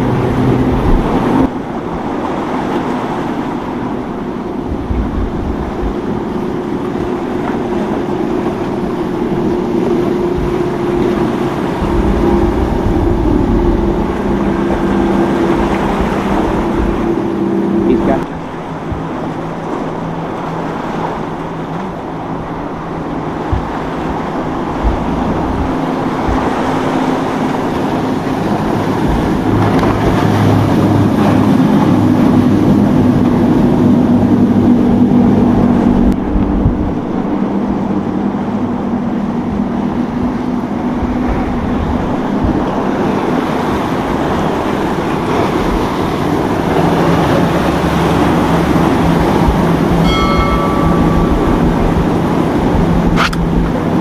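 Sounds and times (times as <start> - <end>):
boat engine drone: 0.0 - 54.0
rushing water: 0.0 - 54.0
wind: 0.0 - 54.0.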